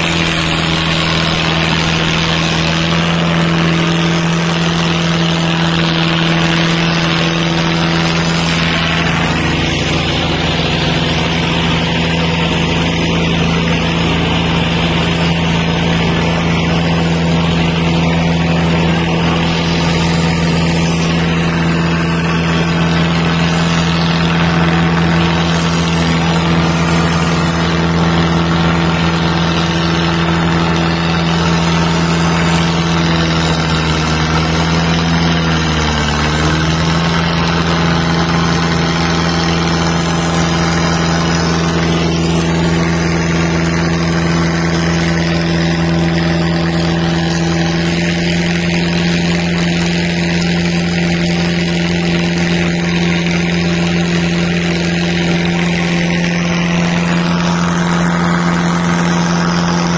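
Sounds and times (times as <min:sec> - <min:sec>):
diesel tractor engines under load: 0:00.0 - 0:59.9.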